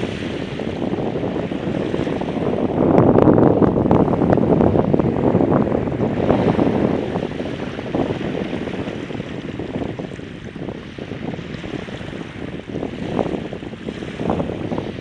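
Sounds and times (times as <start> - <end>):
small waves washing on beach: 0.0 - 15.0
wind buffeting microphone: 0.0 - 15.0.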